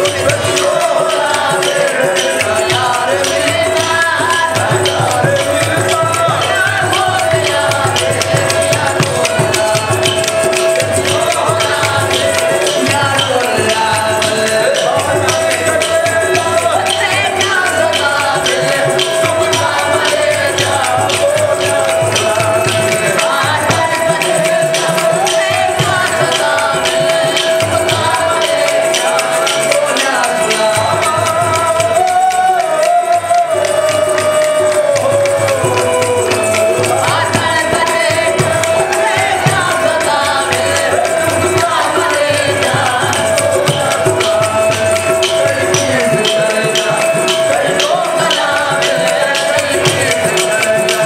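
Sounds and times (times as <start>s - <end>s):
jingling shaken percussion: 0.0s - 51.0s
men singing in a group: 0.0s - 51.0s.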